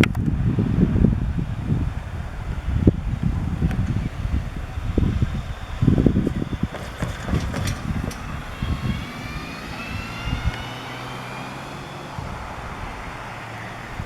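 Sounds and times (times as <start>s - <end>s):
diesel locomotive engines humming: 0.0s - 14.0s
wind gusts on microphone: 0.0s - 14.0s.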